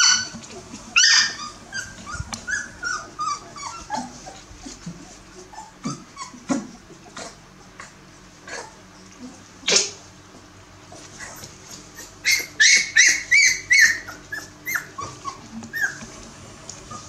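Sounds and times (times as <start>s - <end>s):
puppies whimpering and squeaking: 0.0s - 8.8s, 11.0s - 17.0s.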